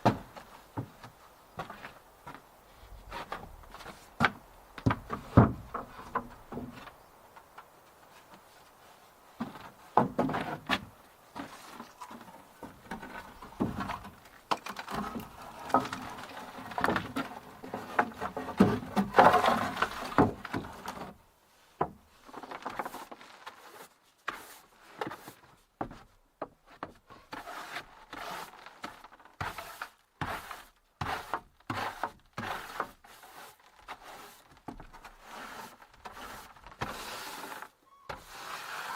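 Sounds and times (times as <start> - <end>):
wood knocking and scraping: 0.0 - 21.2, 21.8 - 33.1, 33.7 - 38.4.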